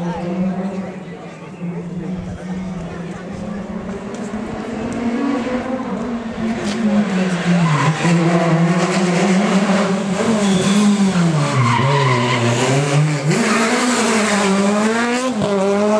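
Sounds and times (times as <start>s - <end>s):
rally car engine at high revs: 0.0s - 15.9s.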